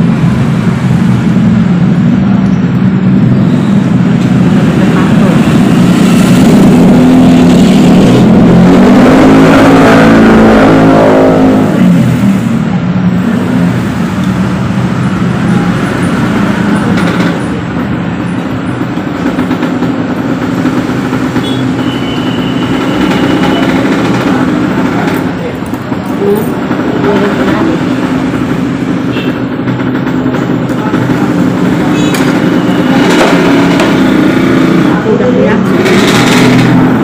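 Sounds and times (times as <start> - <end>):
steady traffic noise: 0.0 - 37.0.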